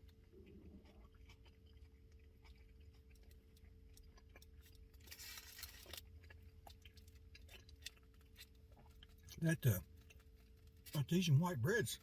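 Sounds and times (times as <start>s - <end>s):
chewing sandwich: 0.0s - 11.4s
low steady hum: 0.0s - 12.0s.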